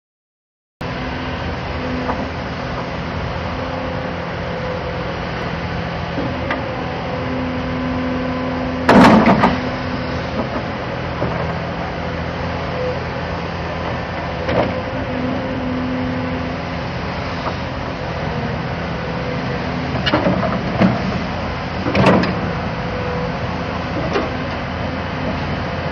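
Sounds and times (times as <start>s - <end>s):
excavator diesel engine running: 0.8s - 25.9s.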